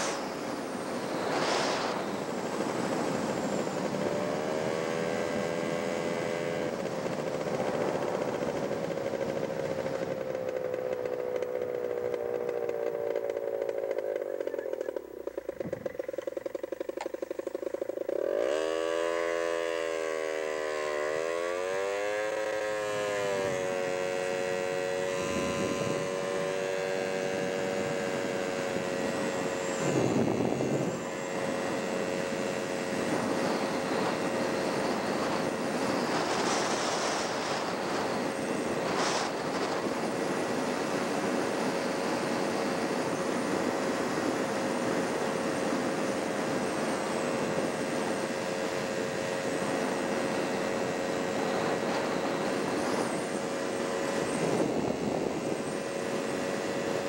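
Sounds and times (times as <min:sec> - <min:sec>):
road and wind noise: 0:00.0 - 0:57.0
vehicle engine: 0:00.0 - 0:57.0.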